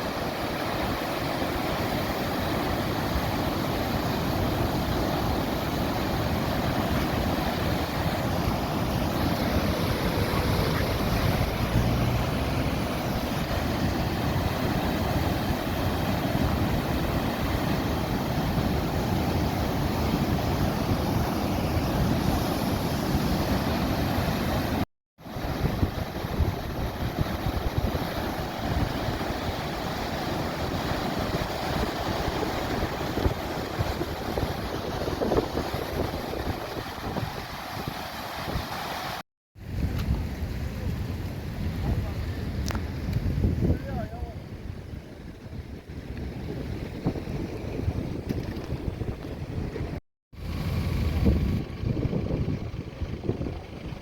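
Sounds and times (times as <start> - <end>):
wind gusting against microphone: 0.0 - 54.0.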